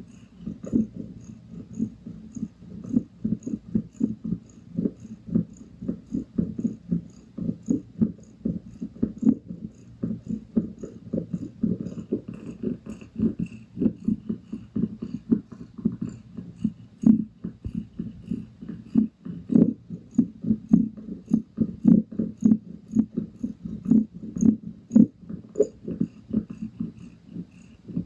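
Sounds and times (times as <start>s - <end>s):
cat rhythmic rasping breathing: 0.0s - 28.0s.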